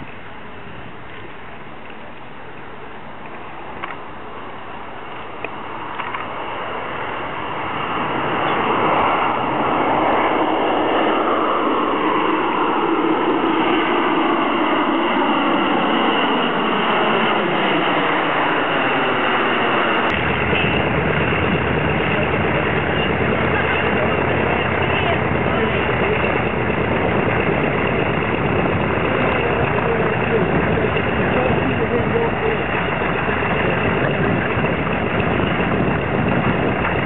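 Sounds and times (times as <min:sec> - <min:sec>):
jet aircraft flying over: 0:00.0 - 0:37.0
radial piston engines rumbling: 0:02.6 - 0:37.0.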